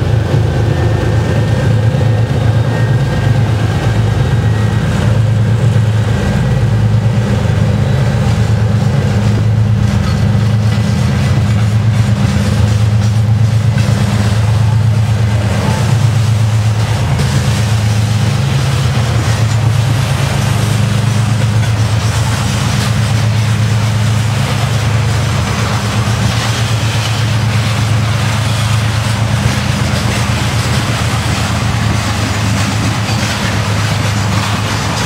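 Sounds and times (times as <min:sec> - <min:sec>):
diesel locomotive engine droning: 0:00.0 - 0:35.0
train wagons rolling on rails: 0:00.0 - 0:35.0.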